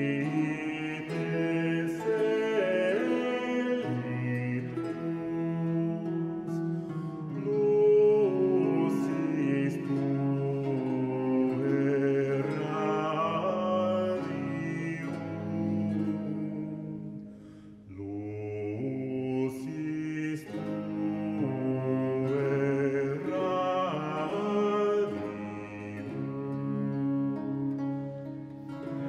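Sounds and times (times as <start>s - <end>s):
choir singing held chords: 0.0s - 28.0s.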